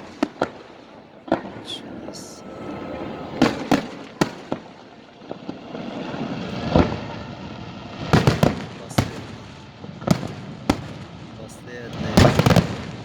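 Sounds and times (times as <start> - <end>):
firework shells bursting with booms: 0.0 - 13.0
fireworks crackling: 0.0 - 13.0.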